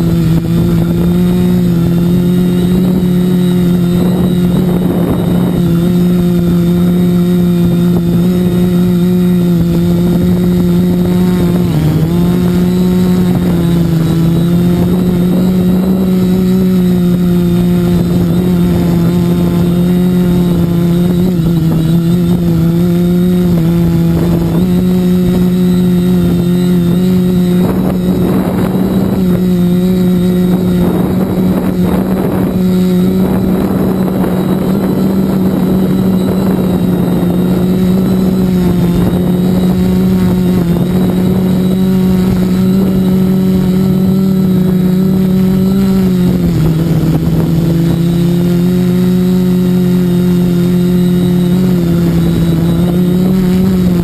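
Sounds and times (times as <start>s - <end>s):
drone propellers humming: 0.0s - 54.0s
rough rushing noise: 0.0s - 54.0s.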